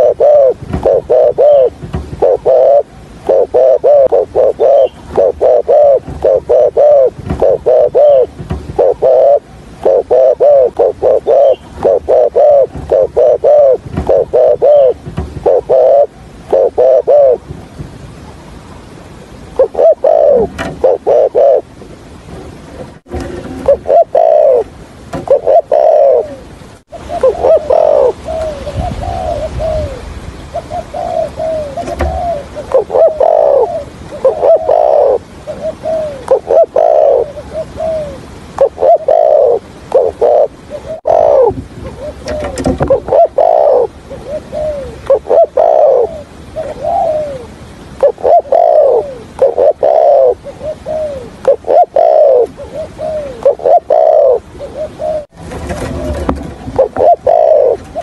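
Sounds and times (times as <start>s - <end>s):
dove cooing: 0.0s - 17.5s, 19.5s - 21.7s, 23.2s - 58.0s.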